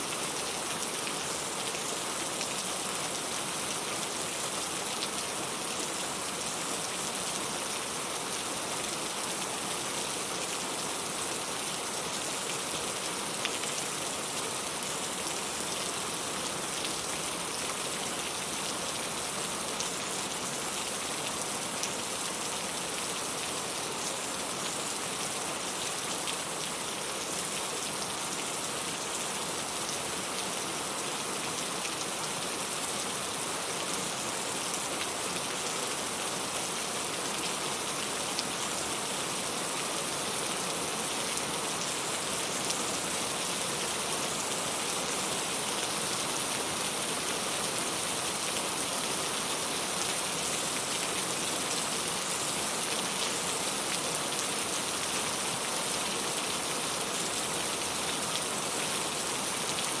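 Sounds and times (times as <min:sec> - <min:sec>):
steady rain pattering: 0:00.0 - 1:00.0.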